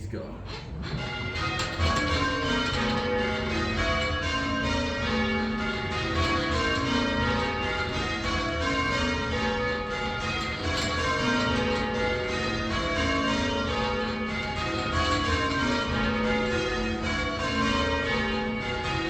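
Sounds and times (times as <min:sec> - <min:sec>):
tower bells ringing: 0:00.3 - 0:19.0.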